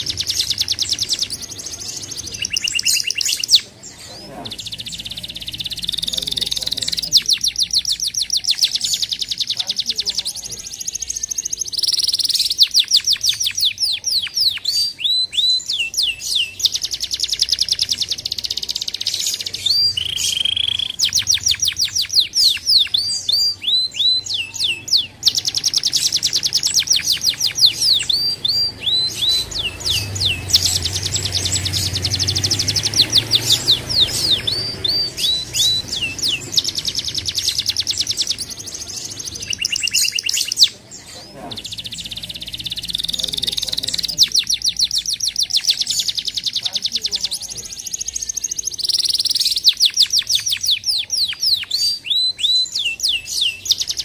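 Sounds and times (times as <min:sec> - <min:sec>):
canary singing trills and whistles: 0:00.0 - 0:54.0.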